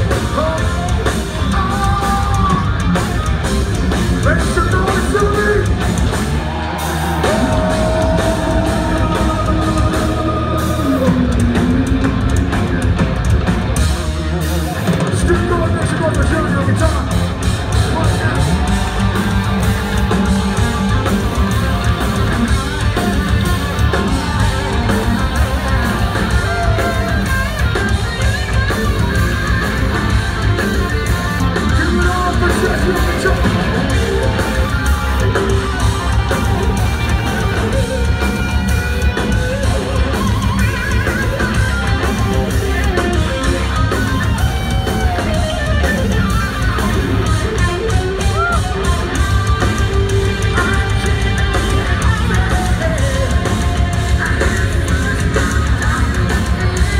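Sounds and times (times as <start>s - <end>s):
bass: 0.0s - 56.9s
distorted electric guitars: 0.0s - 56.9s
drums: 0.0s - 56.9s.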